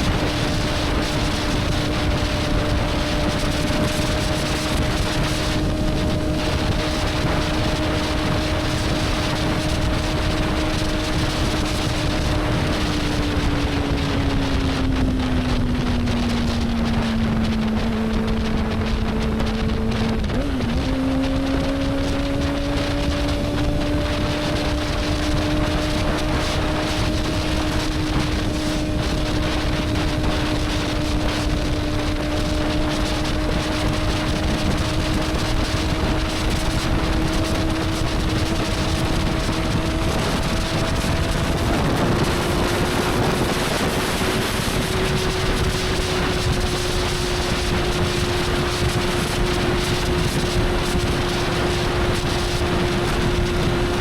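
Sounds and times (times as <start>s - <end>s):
motorcycle engine cruising: 0.0s - 54.0s
wind rushing over microphone: 0.0s - 54.0s.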